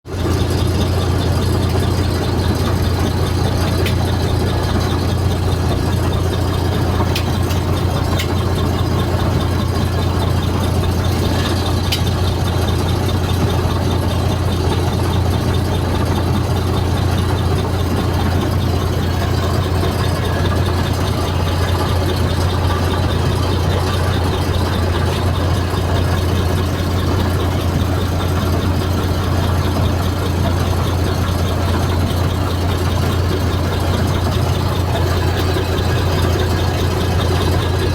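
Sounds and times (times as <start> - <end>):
diesel bus engine idling: 0.0 - 37.9.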